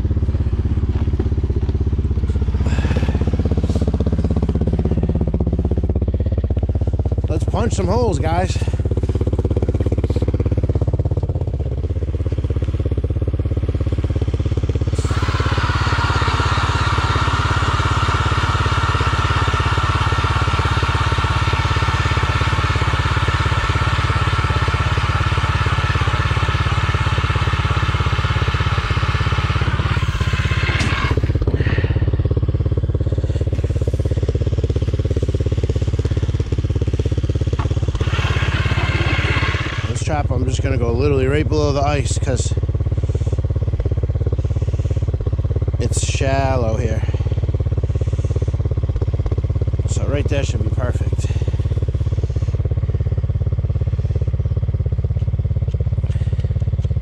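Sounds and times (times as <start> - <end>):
ice auger motor drone: 0.0 - 57.0
steady low rumble: 0.0 - 57.0.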